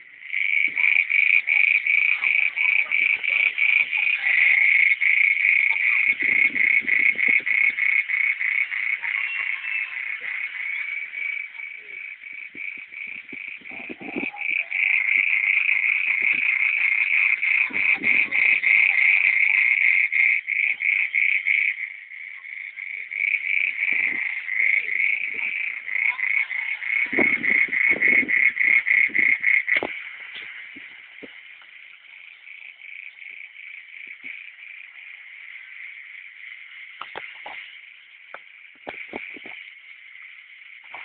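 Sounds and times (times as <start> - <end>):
frogs calling: 0.0 - 41.0.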